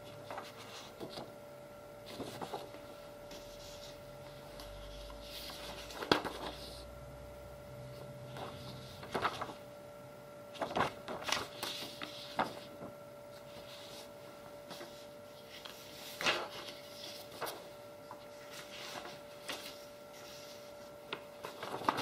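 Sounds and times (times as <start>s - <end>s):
paper rustling and crackling: 0.0s - 1.4s, 2.0s - 6.9s, 7.9s - 9.8s, 10.4s - 22.0s
faint steady hum: 0.0s - 22.0s.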